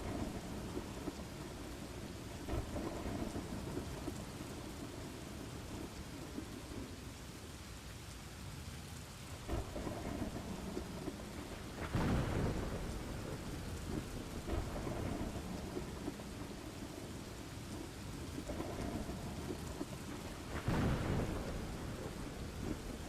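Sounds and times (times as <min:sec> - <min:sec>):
rolling thunder: 0:00.0 - 0:06.9, 0:09.4 - 0:23.0
steady rain: 0:00.0 - 0:23.0.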